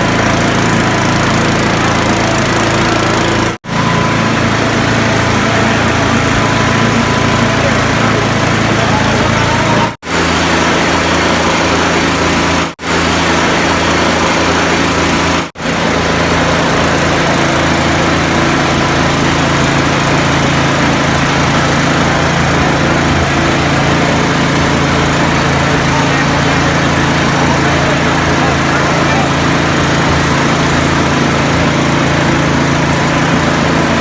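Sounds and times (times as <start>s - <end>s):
small engine running: 0.0s - 34.0s.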